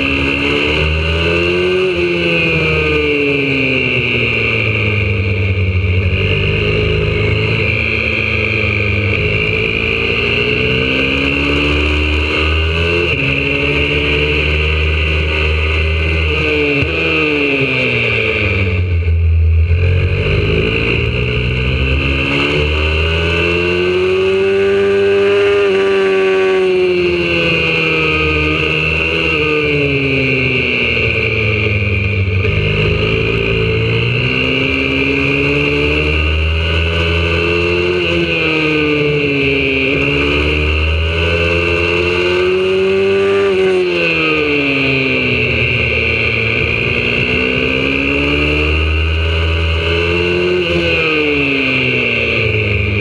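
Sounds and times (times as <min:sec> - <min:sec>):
motorbike engine revving: 0:00.0 - 0:53.0.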